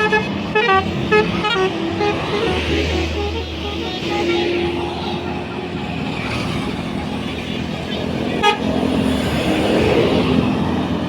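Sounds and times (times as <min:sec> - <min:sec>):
bus horn steady note: 0:00.0 - 0:09.1
bus engine running: 0:00.0 - 0:11.0.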